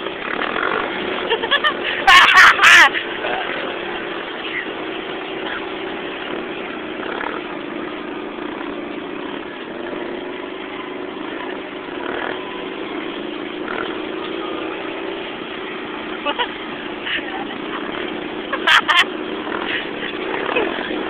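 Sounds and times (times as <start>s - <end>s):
quad bike engine running: 0.0s - 21.0s.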